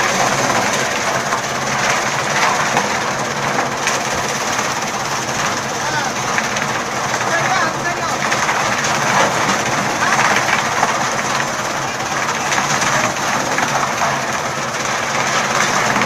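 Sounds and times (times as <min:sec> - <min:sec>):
chaff cutter running: 0:00.0 - 0:16.0.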